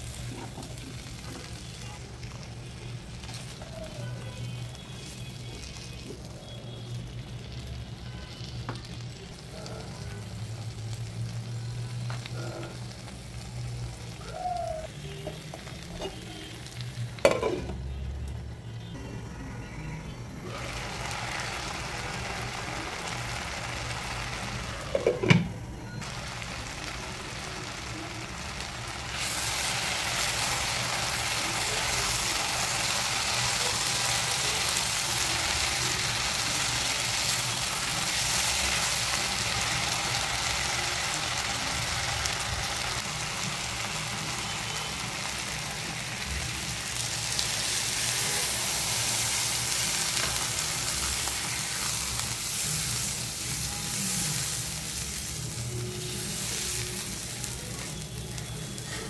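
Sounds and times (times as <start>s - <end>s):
potatoes sizzling in oil: 0.0s - 18.4s, 20.2s - 25.2s, 26.0s - 59.0s.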